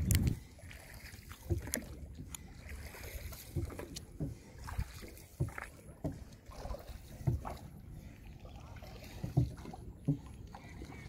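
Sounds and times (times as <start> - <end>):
water knocking and splashing on hull: 0.0 - 11.0.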